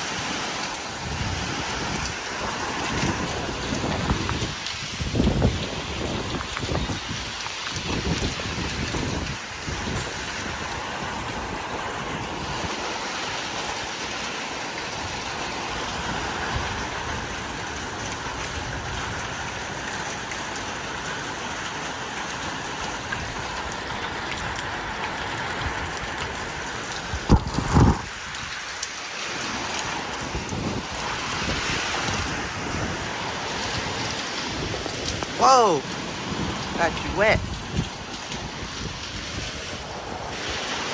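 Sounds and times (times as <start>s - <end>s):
heavy rain pouring: 0.0s - 40.9s
strong wind: 0.0s - 40.9s.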